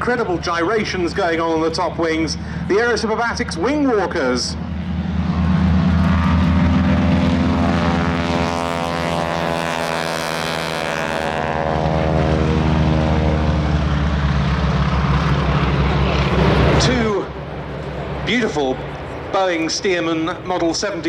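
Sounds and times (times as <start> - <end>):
biplane engines passing by: 0.0 - 21.0.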